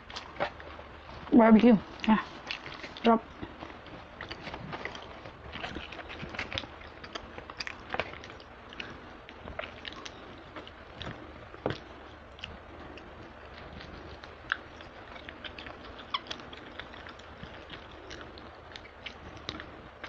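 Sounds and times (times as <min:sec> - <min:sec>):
chewing chicken wings: 0:01.9 - 0:20.0.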